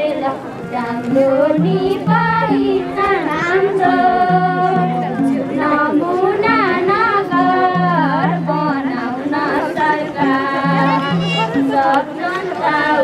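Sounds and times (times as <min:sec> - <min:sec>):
low held accompaniment notes: 0:00.0 - 0:13.0
person singing folk song: 0:00.0 - 0:13.0.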